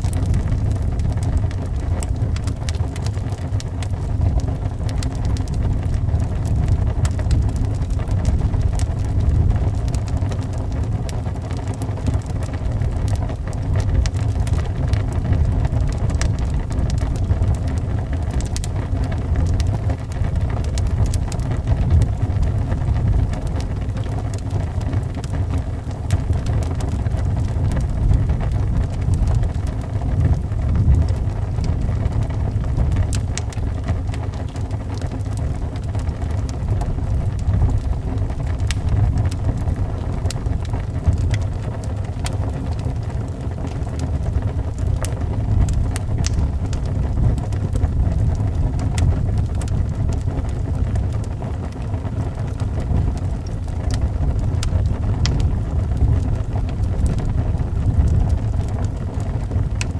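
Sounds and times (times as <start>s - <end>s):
howling wind: 0.0s - 59.9s
wood fire crackling and popping: 0.0s - 59.9s.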